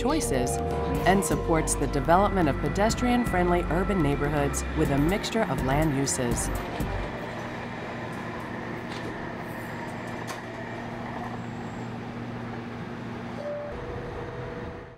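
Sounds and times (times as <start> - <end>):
light rail train running: 0.4 - 14.9.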